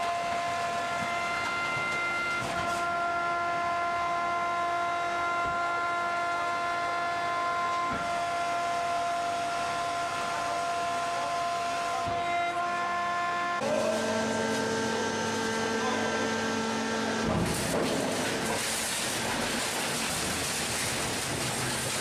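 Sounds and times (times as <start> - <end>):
hydraulic power unit whining: 0.0 - 22.0.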